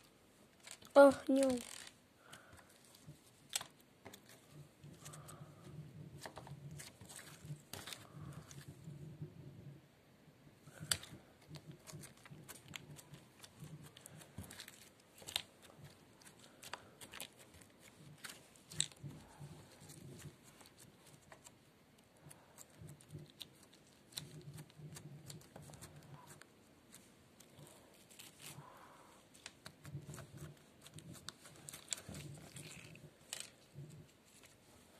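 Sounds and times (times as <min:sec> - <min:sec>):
slime clicking and crackling: 0:00.6 - 0:05.4, 0:10.7 - 0:28.6, 0:29.3 - 0:34.6.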